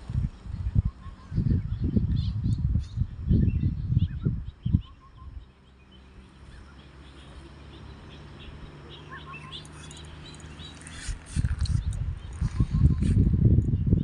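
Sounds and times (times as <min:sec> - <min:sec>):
wind rumble on microphone: 0:00.0 - 0:08.8, 0:09.5 - 0:14.0
steady low hum: 0:00.0 - 0:14.0
small birds chirping: 0:00.1 - 0:14.0.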